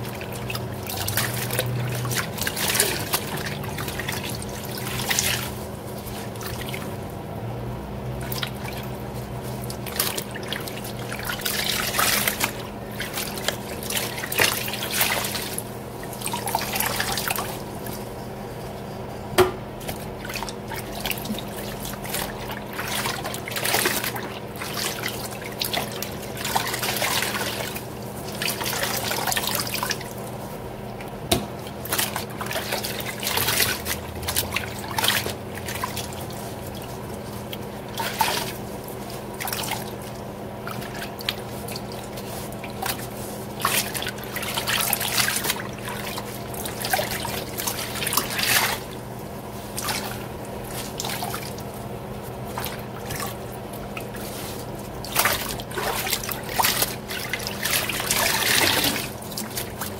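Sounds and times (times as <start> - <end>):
wet cloth sloshing in sink: 0.0 - 59.9.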